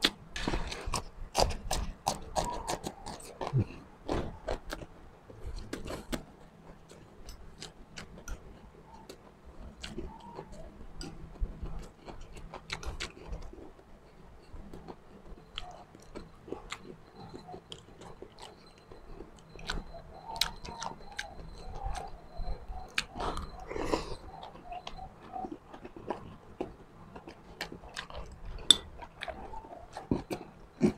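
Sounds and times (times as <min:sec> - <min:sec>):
person chewing food: 0:00.0 - 0:30.9.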